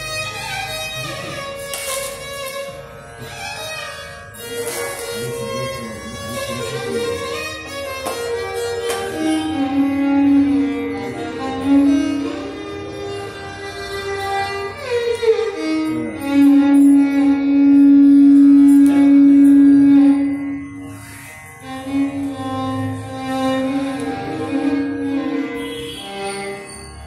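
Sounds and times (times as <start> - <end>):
two violins playing melody: 0.0 - 27.0.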